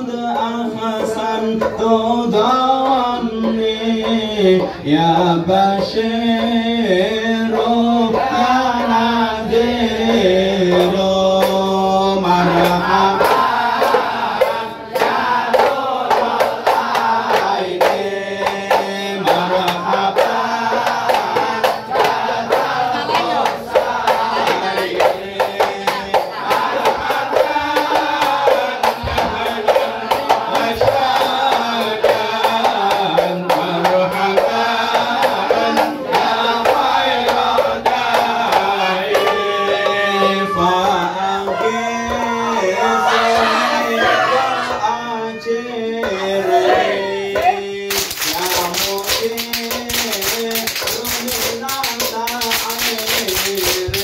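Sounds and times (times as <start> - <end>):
frame drums: 0.0 - 45.1, 45.9 - 54.0
men singing in chorus: 0.0 - 54.0.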